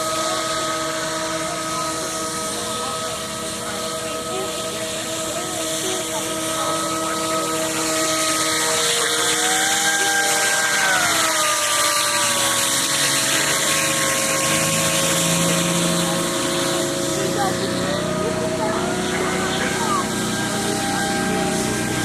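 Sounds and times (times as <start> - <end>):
model hovercraft fan whine: 0.0 - 22.0.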